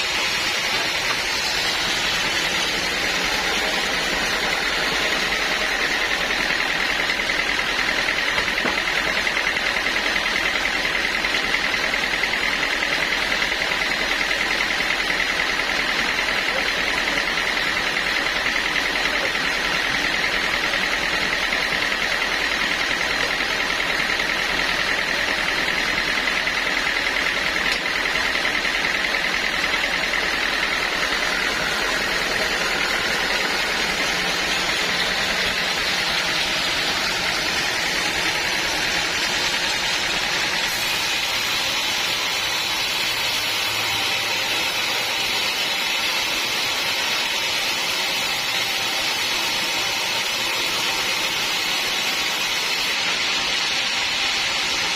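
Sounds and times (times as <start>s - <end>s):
sawmill machinery drone with whine: 0.0s - 54.9s.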